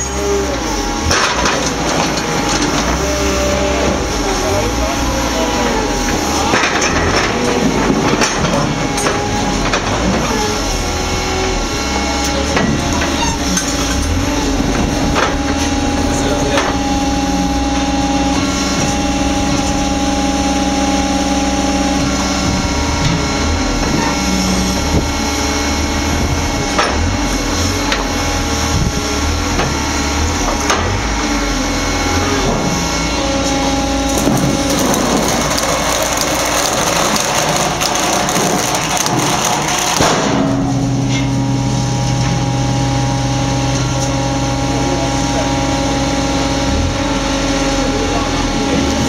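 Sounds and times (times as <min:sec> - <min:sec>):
stone-splitting machine humming: 0:00.0 - 0:49.0.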